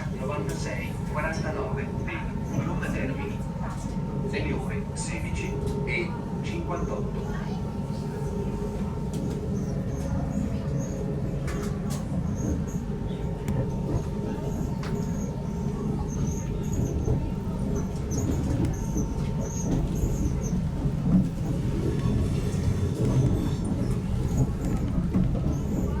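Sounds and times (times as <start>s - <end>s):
low rumble of trains: 0.0s - 26.0s.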